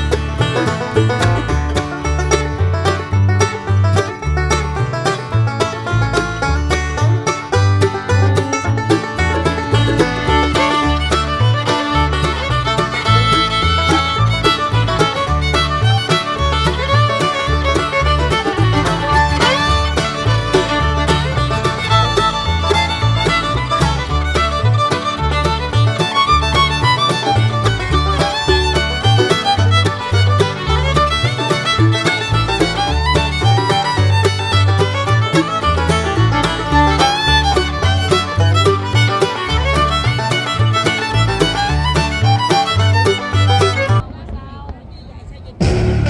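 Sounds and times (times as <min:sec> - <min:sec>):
fiddle melody: 0:00.0 - 0:44.1
heavy bass beat: 0:05.6 - 0:44.0, 0:45.6 - 0:46.0.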